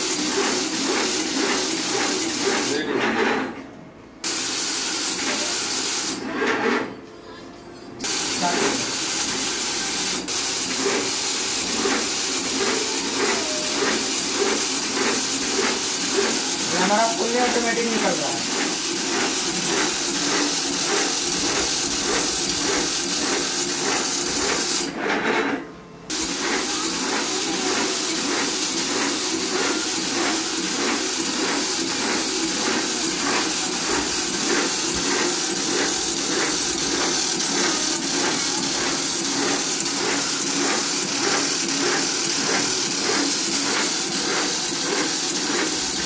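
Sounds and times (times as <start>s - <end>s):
machine clattering: 0.0s - 3.6s, 8.0s - 46.0s.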